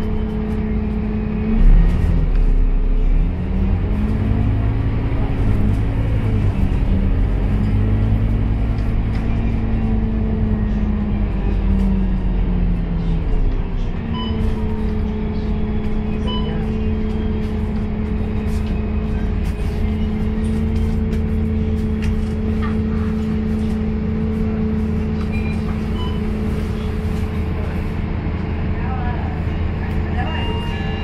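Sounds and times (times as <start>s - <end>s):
bus diesel engine droning: 0.0s - 31.0s
faint rattles of bus body: 0.0s - 31.0s.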